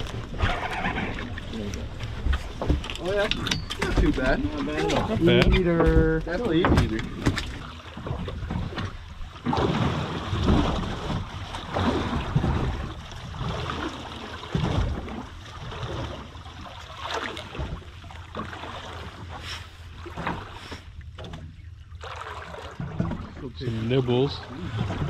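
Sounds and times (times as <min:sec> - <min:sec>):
water slapping against hull: 0:00.0 - 0:25.0.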